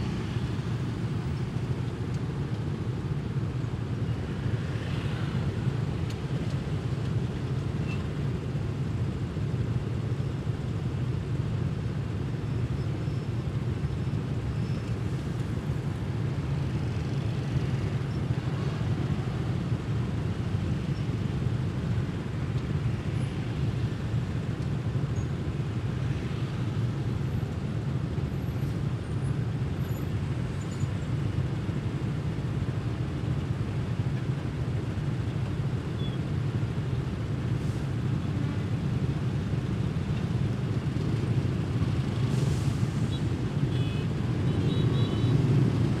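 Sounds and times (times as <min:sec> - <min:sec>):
street noise hum: 0:00.0 - 0:46.0.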